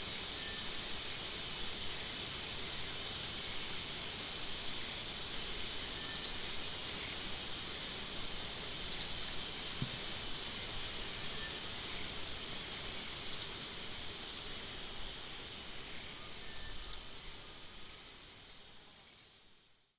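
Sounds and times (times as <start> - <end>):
high insect drone: 0.0 - 19.6.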